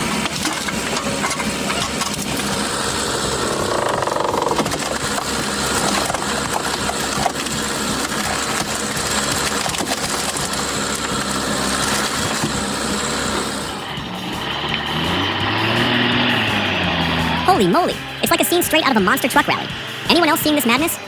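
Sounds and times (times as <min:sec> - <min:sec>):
wood crackling and splintering: 0:00.0 - 0:17.3
log splitter engine running: 0:00.0 - 0:21.0.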